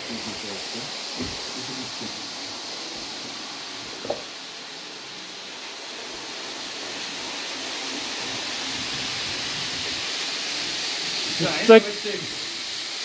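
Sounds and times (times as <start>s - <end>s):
model trains rushing on track: 0.0s - 13.0s.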